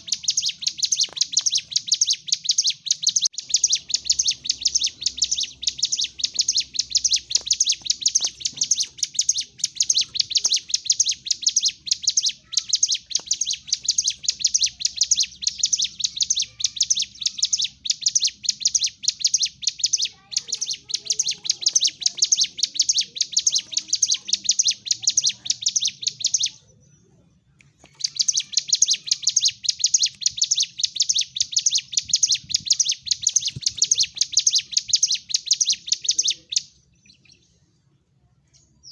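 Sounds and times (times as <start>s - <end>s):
bird chirping rapidly: 0.0s - 26.8s, 27.7s - 37.4s.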